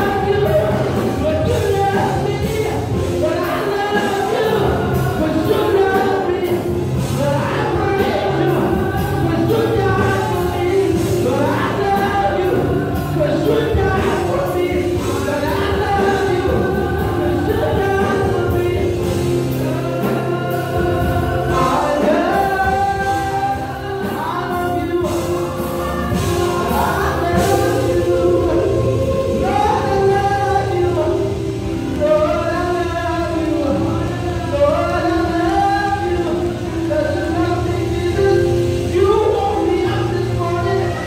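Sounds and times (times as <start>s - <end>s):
gospel singing: 0.0s - 41.0s
sustained instrumental accompaniment: 0.0s - 41.0s.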